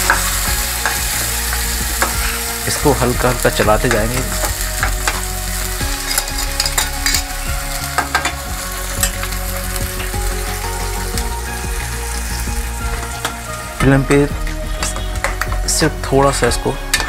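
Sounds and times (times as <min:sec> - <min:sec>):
paste sizzling in oil: 0:00.0 - 0:15.8.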